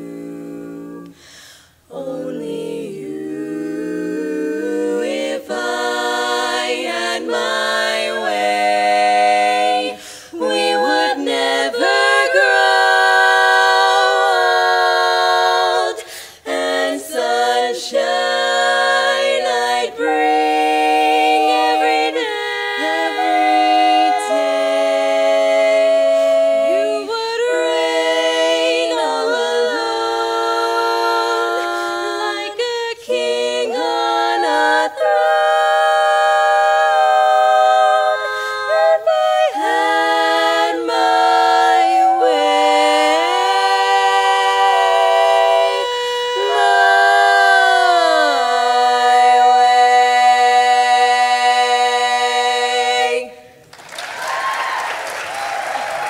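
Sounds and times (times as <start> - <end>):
women singing close harmony: 0.0 - 53.6.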